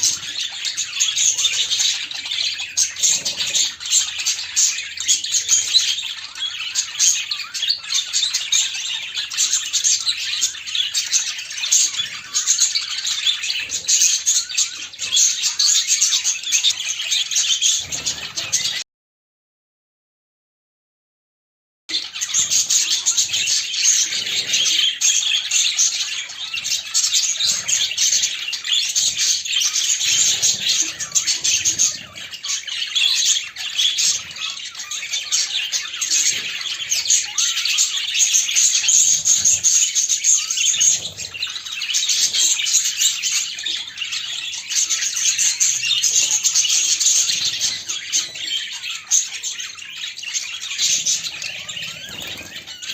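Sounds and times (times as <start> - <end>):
budgerigars chirping and chattering: 0.0 - 18.8, 21.9 - 52.9.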